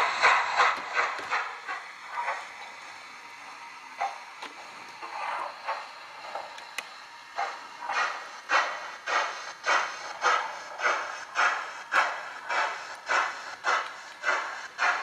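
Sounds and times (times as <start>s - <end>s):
model train steam chuffs: 0.0s - 15.0s.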